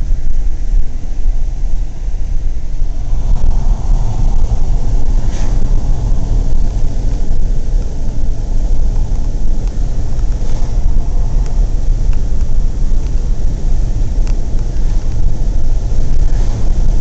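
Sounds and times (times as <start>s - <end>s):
car interior road and engine rumble: 0.0s - 17.0s.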